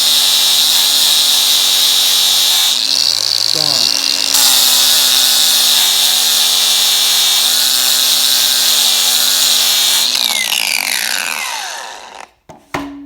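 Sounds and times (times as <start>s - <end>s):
angle grinder whining: 0.0s - 12.4s
grinder spinning down: 0.0s - 12.4s.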